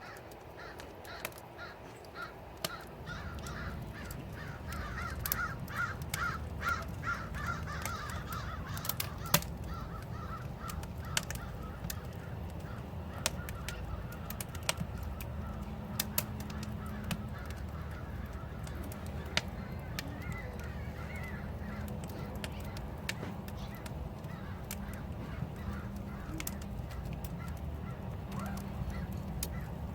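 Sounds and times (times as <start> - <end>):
crows cawing: 0.0 - 29.9
wood fire crackling and popping: 0.0 - 29.9.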